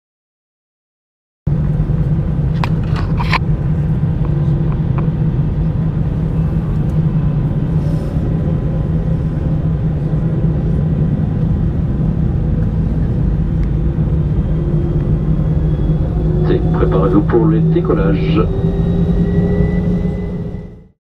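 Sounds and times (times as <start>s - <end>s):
jet engines low rumble: 1.5s - 21.0s.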